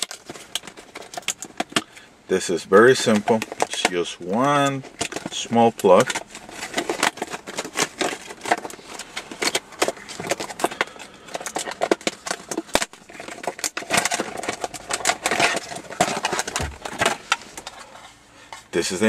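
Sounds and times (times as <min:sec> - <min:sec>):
small parts clicking and rustling: 0:00.0 - 0:02.1, 0:02.8 - 0:18.7.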